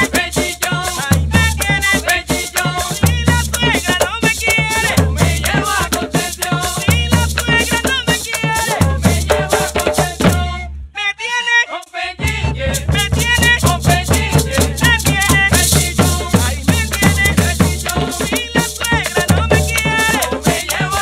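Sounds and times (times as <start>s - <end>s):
hand drums: 0.0s - 10.6s, 12.2s - 21.0s
maracas shaking: 0.0s - 10.6s, 11.8s - 21.0s.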